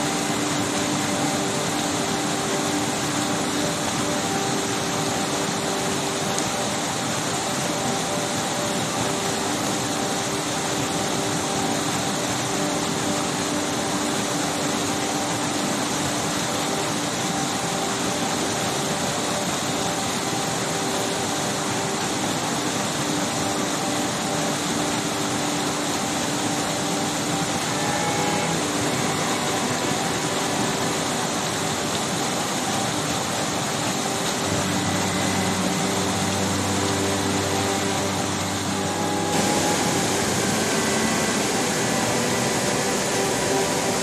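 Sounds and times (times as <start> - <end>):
waterfall rushing over rocks: 0.0 - 44.0.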